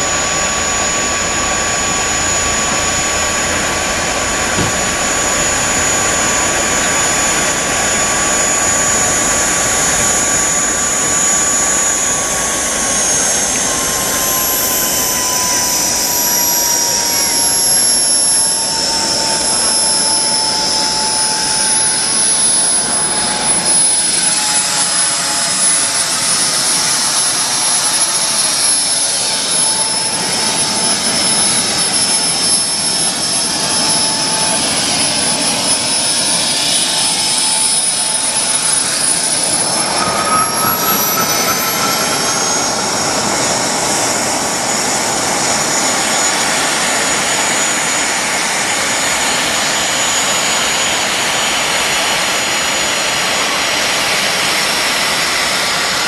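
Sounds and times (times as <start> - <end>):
gas turbine high whine: 0.0 - 56.0.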